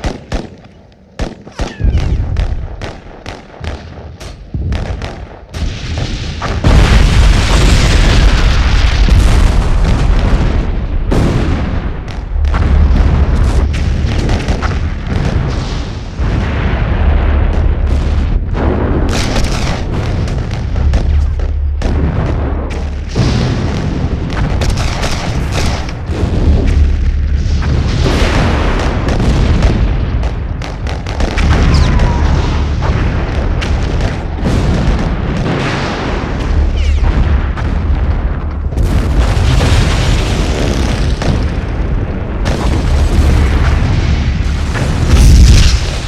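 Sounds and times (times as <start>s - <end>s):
explosions and booms: 0.0s - 46.0s
gunshots: 0.0s - 46.0s.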